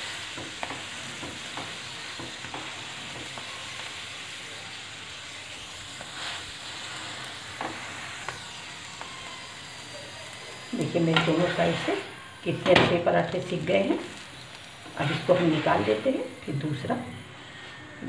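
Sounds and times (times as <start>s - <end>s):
oil sizzling under frying bread: 0.0s - 18.0s.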